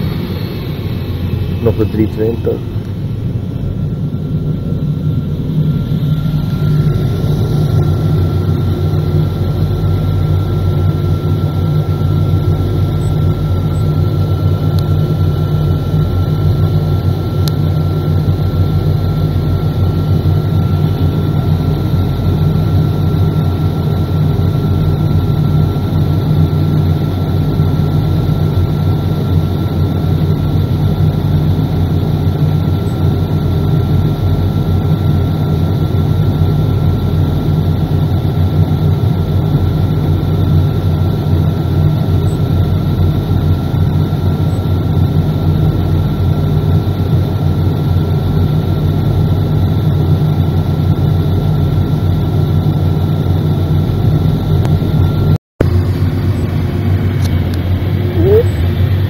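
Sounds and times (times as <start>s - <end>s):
constant high whine: 0.0s - 59.0s
loud low engine drone: 0.0s - 59.0s.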